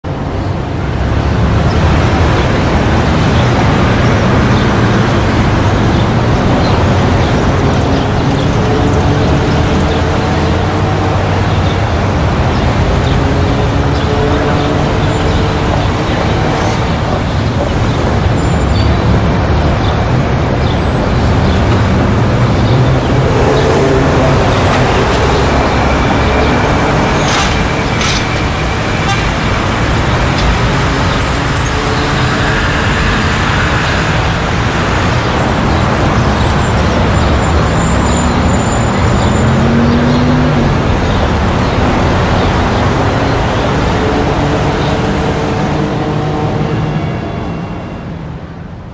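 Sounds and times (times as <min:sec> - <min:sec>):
traffic noise: 0:00.0 - 0:48.9.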